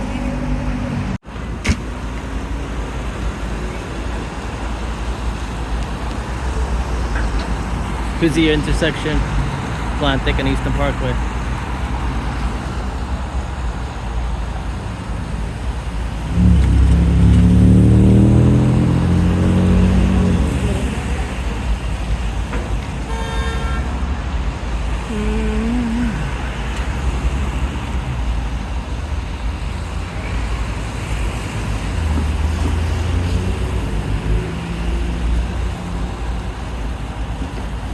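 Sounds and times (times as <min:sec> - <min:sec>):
street traffic: 0:00.0 - 0:37.9.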